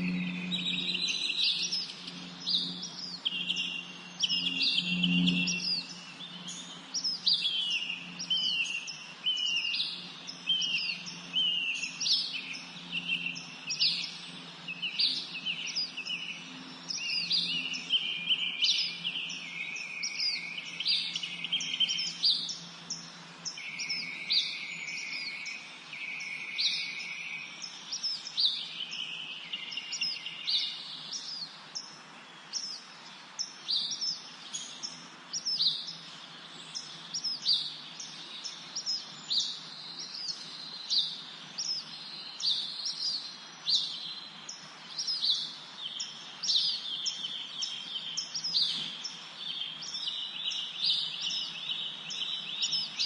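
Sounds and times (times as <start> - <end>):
faint background hiss: 0.0 - 53.0
songbirds singing and chirping: 0.0 - 53.0.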